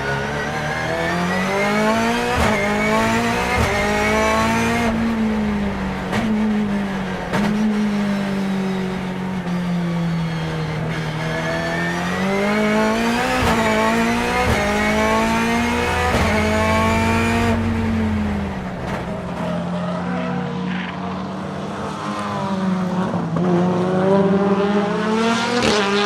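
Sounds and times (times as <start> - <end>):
race car engine revving: 0.0 - 26.0
engine crack on upshifts: 0.2 - 23.9.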